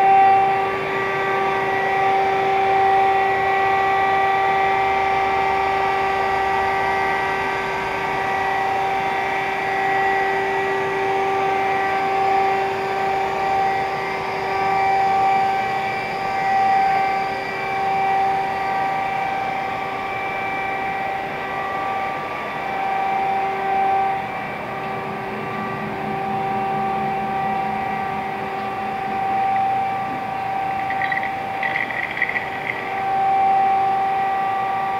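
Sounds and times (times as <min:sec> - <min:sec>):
machinery hum and whine: 0:00.0 - 0:34.9.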